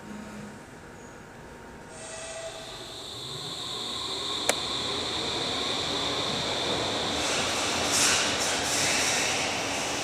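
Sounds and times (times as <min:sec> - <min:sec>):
subway train whining: 0:00.0 - 0:10.0.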